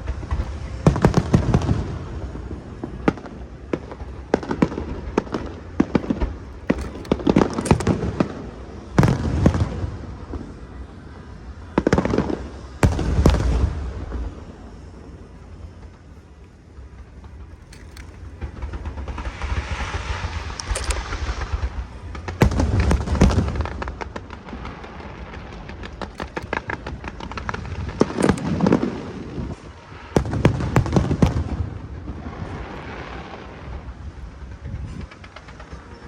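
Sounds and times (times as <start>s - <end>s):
fireworks bursts cracking and booming: 0.0s - 36.0s
fireworks crackling hiss: 0.0s - 36.0s.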